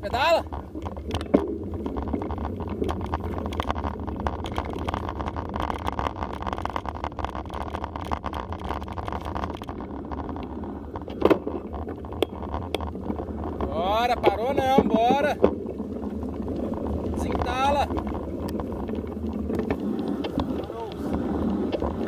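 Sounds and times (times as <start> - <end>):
bike tyres rumbling on dirt: 0.0 - 22.0
bike rattling clicks: 0.4 - 22.0.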